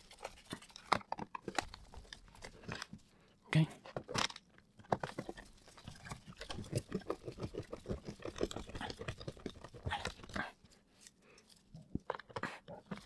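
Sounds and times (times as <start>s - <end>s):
plastic toy clicking and scraping: 0.0s - 3.1s, 3.8s - 13.0s.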